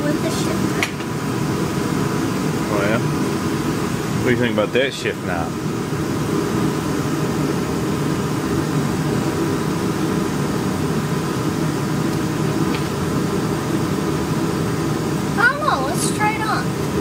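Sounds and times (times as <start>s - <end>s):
machine humming and whirring: 0.0s - 17.0s.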